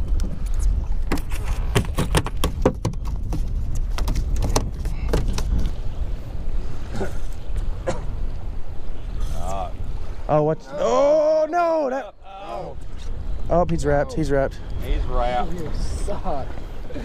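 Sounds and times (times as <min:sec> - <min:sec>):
wind and waves rumble: 0:00.0 - 0:17.0.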